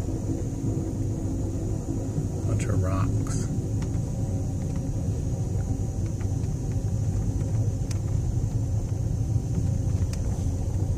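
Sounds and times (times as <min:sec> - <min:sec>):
vehicle road noise: 0:00.0 - 0:10.9.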